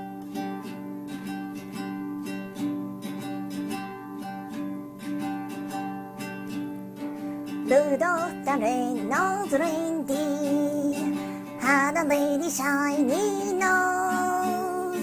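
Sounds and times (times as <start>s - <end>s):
classical guitar strumming: 0.0s - 15.0s.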